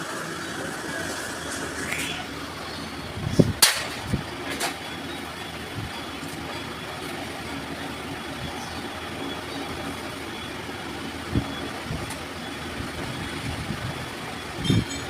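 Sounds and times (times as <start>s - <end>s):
vehicle and workshop noise: 0.0s - 15.0s.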